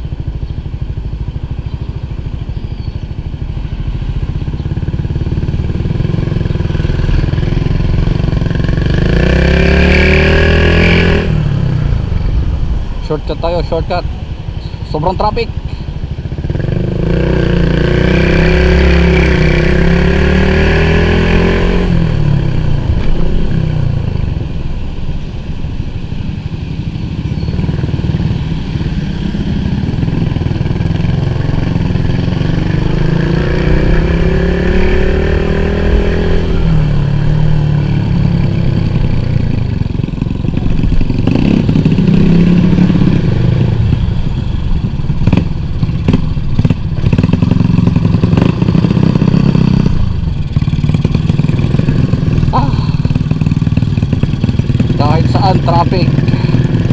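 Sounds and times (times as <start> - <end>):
scooter engine accelerating: 0.1 - 24.6, 26.4 - 56.9.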